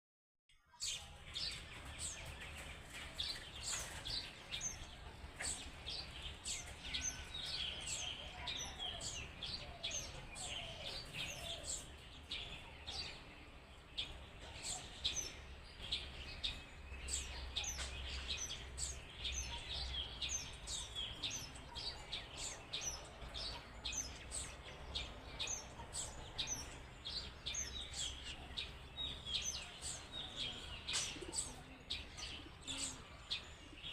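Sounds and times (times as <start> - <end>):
small birds chirping and twittering: 0.5 - 33.9.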